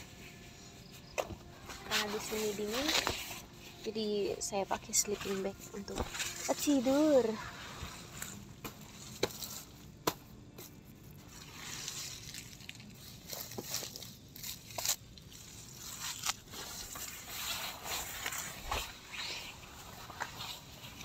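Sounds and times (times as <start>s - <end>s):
sleeping bag and mat crinkling: 0.0s - 10.0s, 10.6s - 21.0s.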